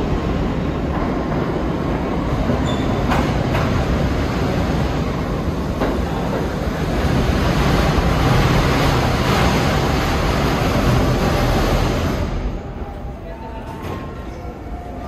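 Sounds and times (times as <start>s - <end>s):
subway train rushing: 0.0s - 15.0s.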